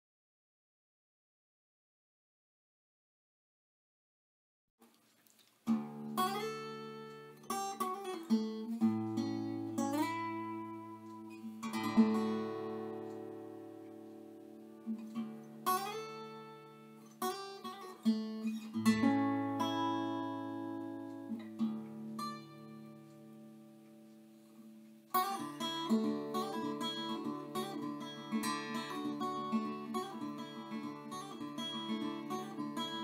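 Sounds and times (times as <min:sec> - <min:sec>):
acoustic guitar music: 0:05.6 - 0:33.0.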